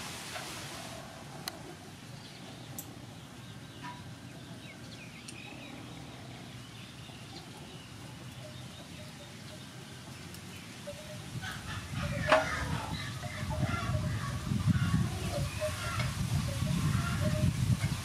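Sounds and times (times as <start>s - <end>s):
birds calling: 1.2s - 18.0s.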